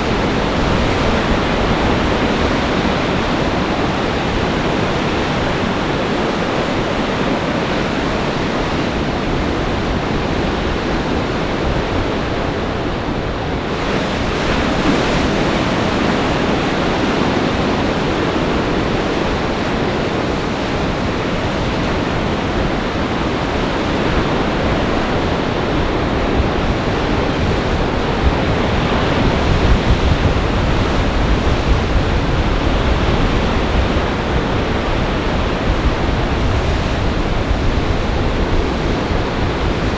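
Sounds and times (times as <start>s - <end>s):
storm waves crashing: 0.0s - 39.9s
wind buffeting microphone: 0.0s - 39.9s.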